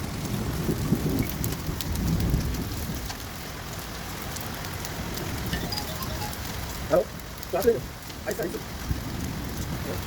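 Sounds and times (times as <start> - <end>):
hail and rain pelting: 0.0 - 10.0
sharp ticks of hailstones: 0.0 - 10.0.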